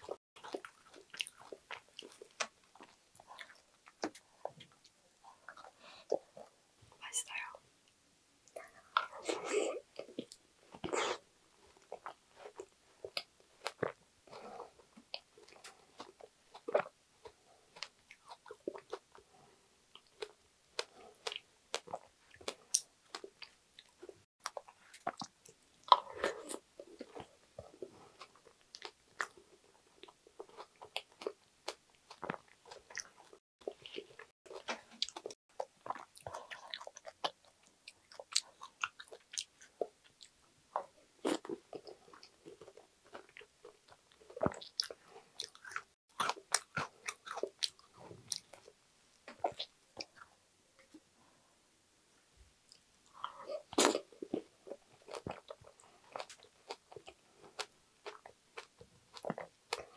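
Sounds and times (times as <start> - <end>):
chewing and wet mouth sounds: 0.0 - 7.5, 8.4 - 50.3, 52.6 - 59.9.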